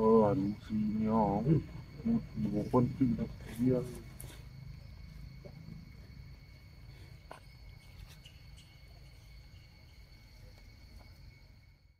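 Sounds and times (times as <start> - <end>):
insect drone: 0.0 - 11.9.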